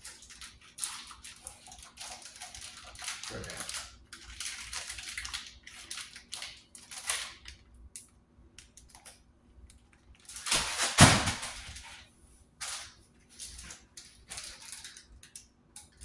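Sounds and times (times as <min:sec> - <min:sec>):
plastic package crinkling: 0:00.0 - 0:08.1, 0:10.0 - 0:12.0, 0:12.6 - 0:16.0.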